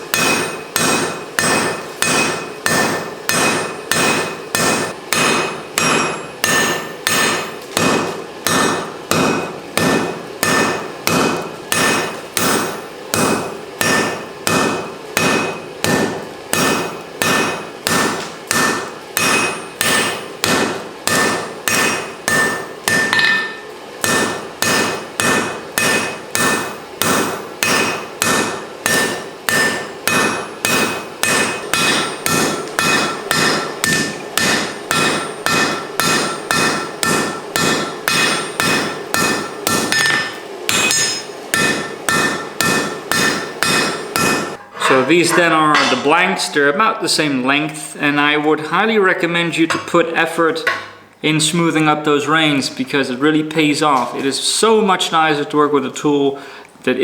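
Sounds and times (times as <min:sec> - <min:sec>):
hammer striking steel on anvil: 0:00.0 - 0:46.2, 0:49.7 - 0:50.0, 0:50.6 - 0:51.0.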